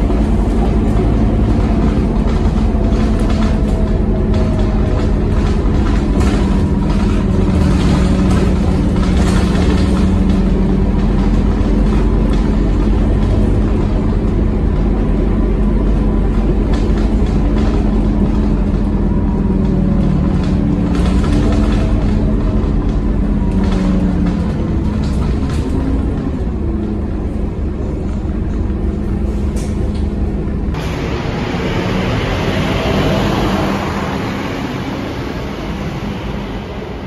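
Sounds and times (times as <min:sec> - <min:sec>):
bus diesel engine running: 0:00.0 - 0:37.0
road and tyre noise: 0:00.0 - 0:37.0.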